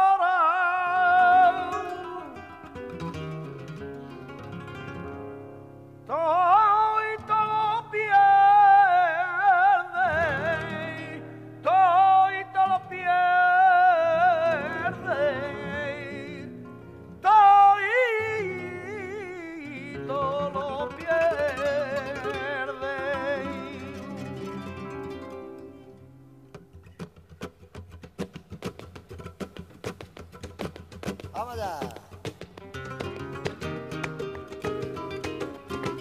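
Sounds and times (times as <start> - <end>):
person singing flamenco: 0.0 - 5.4, 6.0 - 36.0
flamenco guitar: 0.0 - 36.0.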